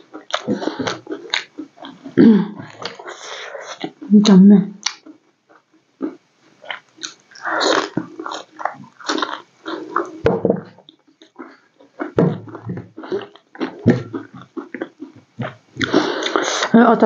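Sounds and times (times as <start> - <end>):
person chewing and biting: 0.0 - 4.1, 4.8 - 16.7.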